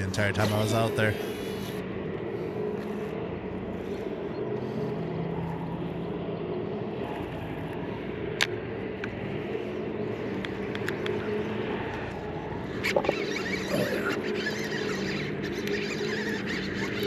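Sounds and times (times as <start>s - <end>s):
machinery droning: 0.0s - 17.0s.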